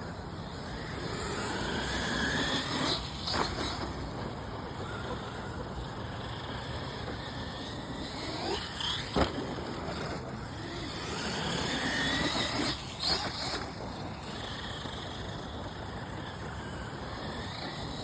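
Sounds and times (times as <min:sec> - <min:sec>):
toy truck motor whine: 0:00.0 - 0:18.0.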